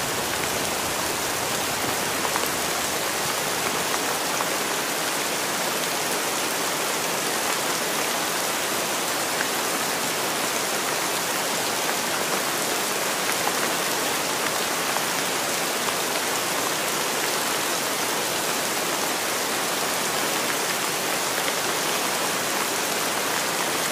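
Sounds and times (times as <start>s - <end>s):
steady rain: 0.0s - 23.9s.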